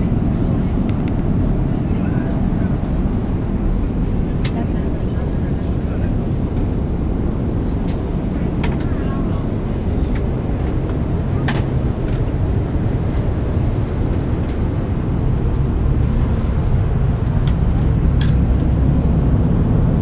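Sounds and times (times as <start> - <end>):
aircraft cabin engine rush: 0.0 - 20.0.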